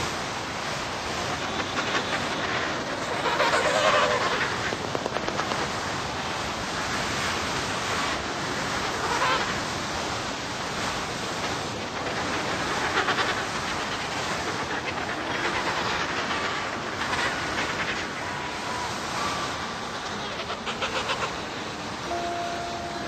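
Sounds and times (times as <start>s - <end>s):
storm wind and driven snow: 0.0s - 23.0s.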